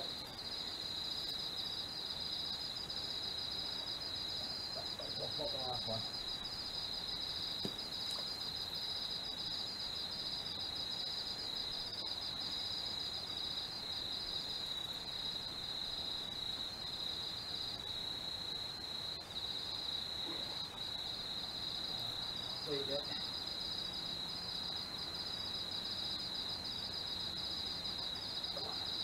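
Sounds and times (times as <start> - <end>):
faint background hiss: 0.0 - 29.0
insects trilling: 0.0 - 29.0.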